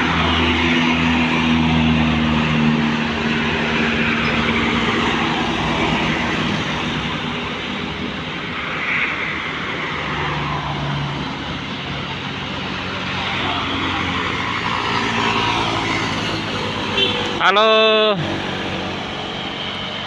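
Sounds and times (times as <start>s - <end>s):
heavy vehicle engine hum: 0.0s - 20.0s
road and traffic noise: 0.0s - 20.0s.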